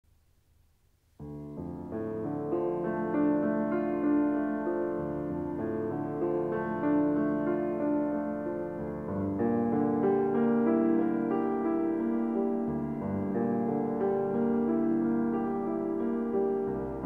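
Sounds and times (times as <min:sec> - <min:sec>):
slow keyboard music: 0:01.2 - 0:17.0.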